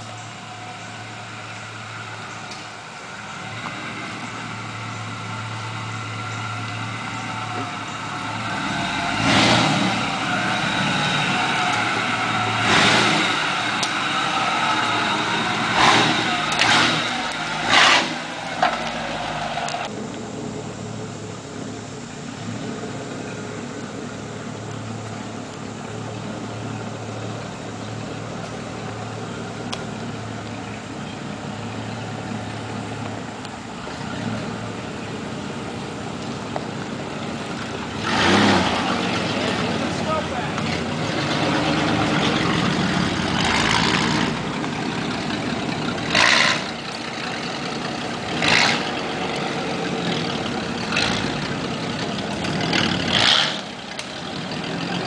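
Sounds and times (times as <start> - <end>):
engine bursts: 0.0 - 55.0
truck engine driving past: 0.0 - 55.0.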